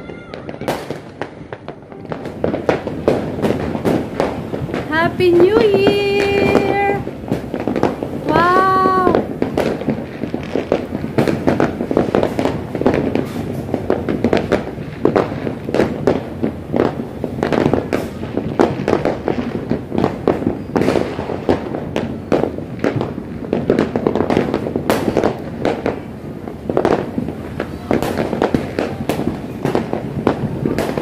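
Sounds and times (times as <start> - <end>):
fireworks banging and crackling: 0.0 - 31.0.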